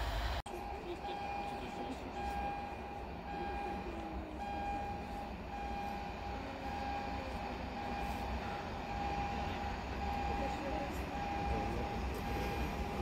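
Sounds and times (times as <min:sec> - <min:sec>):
electric train rumble: 0:00.0 - 0:13.0
electronic warning tone: 0:00.5 - 0:13.0.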